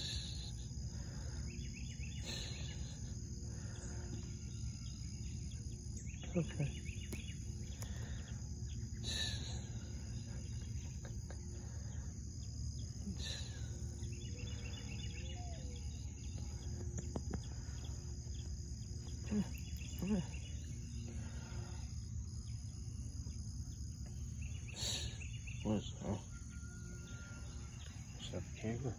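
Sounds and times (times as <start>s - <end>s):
high-pitched insect buzz: 0.0s - 28.4s.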